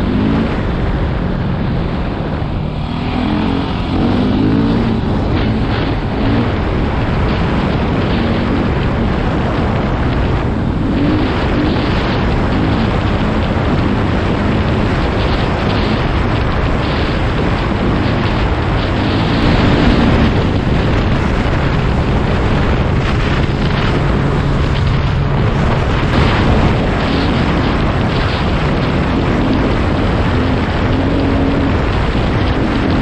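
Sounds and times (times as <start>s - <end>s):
quad bike engine running: 0.0s - 33.0s
wind buffeting microphone: 0.0s - 33.0s.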